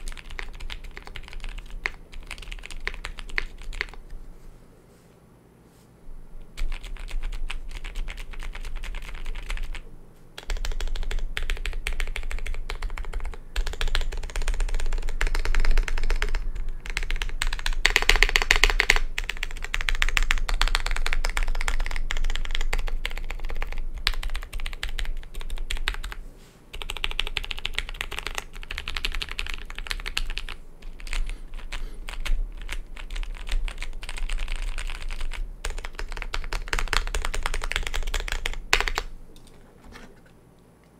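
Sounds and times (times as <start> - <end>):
mechanical keyboard typing: 0.0 - 4.0, 6.6 - 9.8, 10.4 - 39.1.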